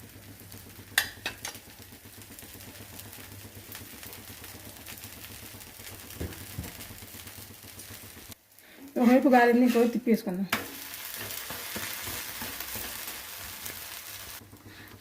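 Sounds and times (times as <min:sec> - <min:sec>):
frying sizzle on griddle: 0:00.0 - 0:15.0.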